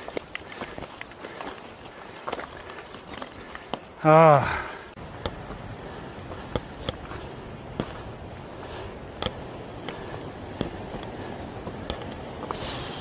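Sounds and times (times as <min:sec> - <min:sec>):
tyre and wind noise: 0:00.0 - 0:13.0.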